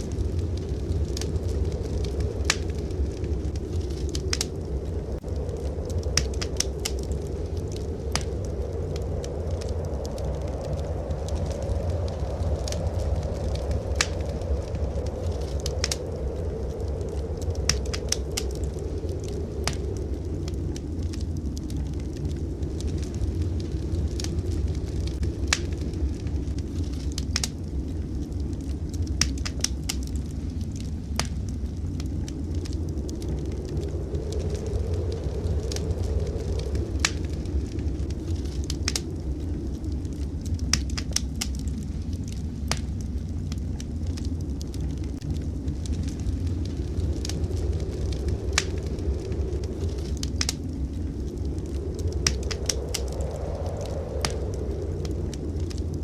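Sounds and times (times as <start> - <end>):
low rumble of fire: 0.0 - 56.0
wood fire crackling and popping: 0.0 - 56.0.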